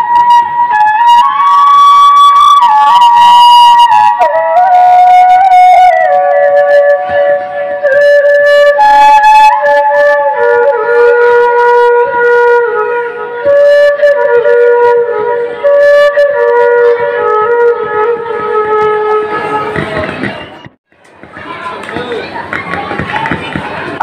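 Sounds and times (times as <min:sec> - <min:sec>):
slow flute melody: 0:00.0 - 0:20.6.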